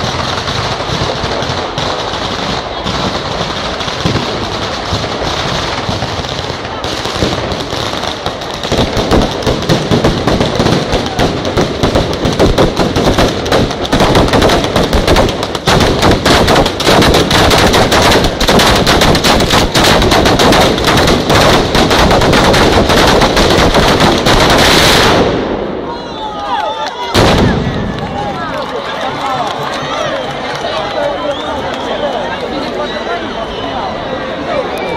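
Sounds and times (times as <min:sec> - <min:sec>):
firecrackers exploding: 0:00.0 - 0:29.9.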